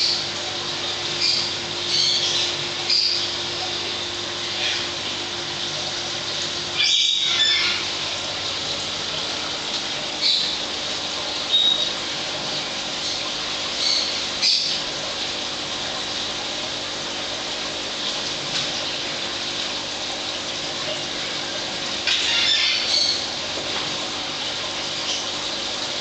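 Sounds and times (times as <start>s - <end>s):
aquarium pump water rushing: 0.0s - 26.0s.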